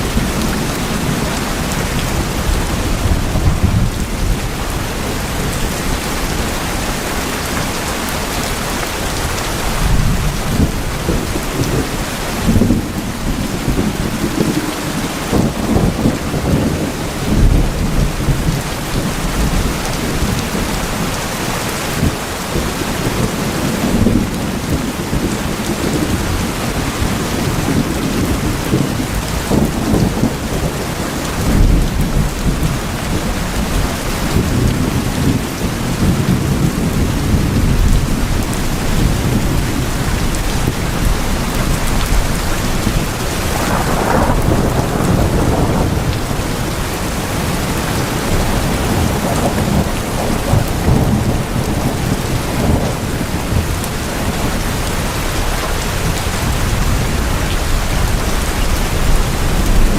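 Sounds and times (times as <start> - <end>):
heavy rain on a tin roof: 0.0 - 59.9
thunder rumbling: 0.0 - 59.9.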